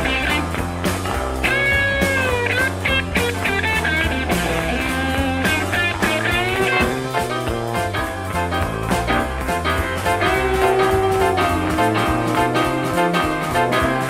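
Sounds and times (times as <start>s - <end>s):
bass guitar: 0.0s - 14.0s
drums: 0.0s - 14.0s
electric guitar bending notes: 0.0s - 14.0s.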